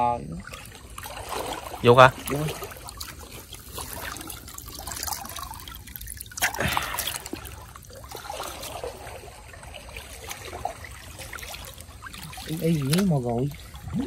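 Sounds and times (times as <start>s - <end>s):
river water trickling and sloshing: 0.0s - 14.0s
loud water splash: 0.4s - 14.0s.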